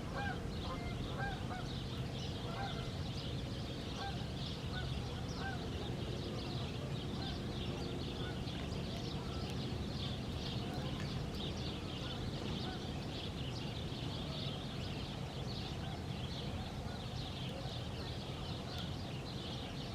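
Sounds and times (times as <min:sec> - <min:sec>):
flock of birds chattering: 0:00.0 - 0:19.9.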